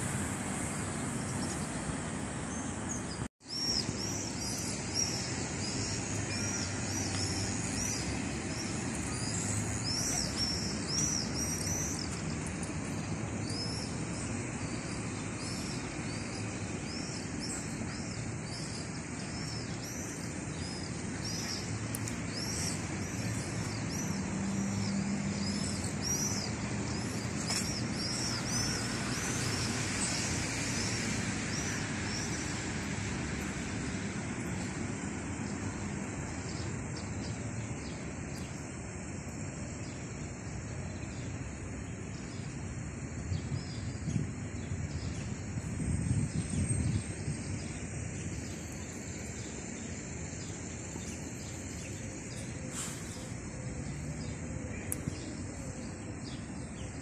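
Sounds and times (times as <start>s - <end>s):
distant traffic rumble: 0.0s - 57.0s
small birds chirping: 0.0s - 57.0s.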